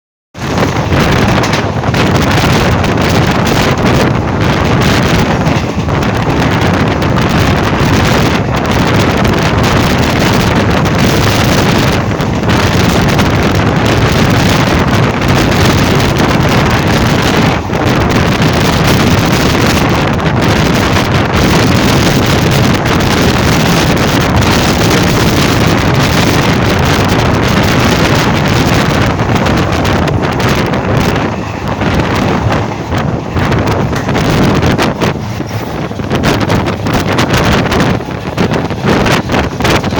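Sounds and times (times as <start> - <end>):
train wheels rumbling on rails: 0.3 - 39.9
wind buffeting microphone: 0.4 - 39.9.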